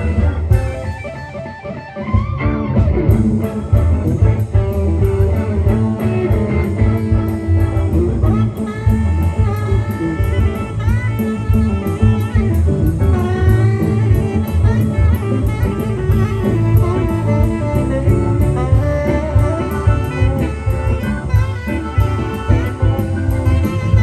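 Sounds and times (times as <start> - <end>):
bass: 0.0 - 1.1, 2.2 - 24.0
drums: 0.0 - 24.0
lead guitar: 0.0 - 24.0.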